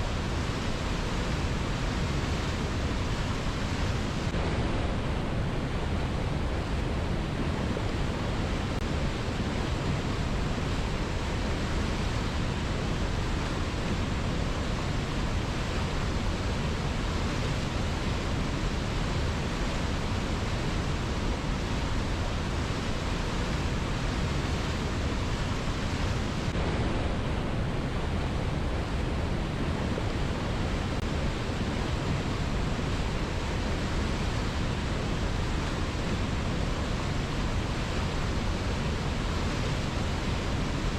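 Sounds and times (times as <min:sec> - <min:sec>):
fast-flowing river rushing: 0:00.0 - 0:40.9.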